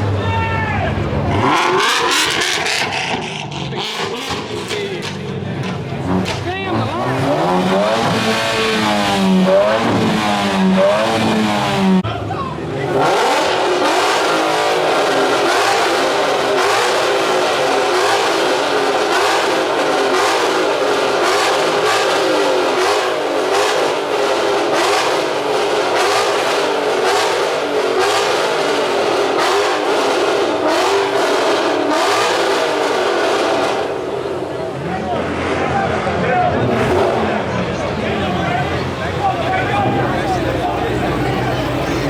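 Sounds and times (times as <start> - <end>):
car engine revving high: 1.0 - 12.1, 12.7 - 42.0.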